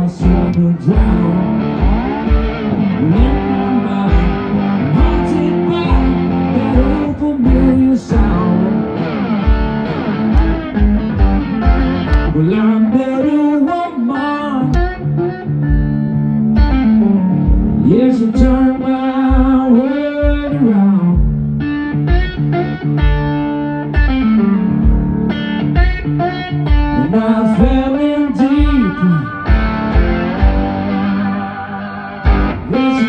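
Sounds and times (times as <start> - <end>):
steady kick drum: 0.0 - 12.5, 14.8 - 31.1, 32.2 - 32.8
bass: 0.0 - 33.0
electric guitar lead with bends: 0.0 - 33.0.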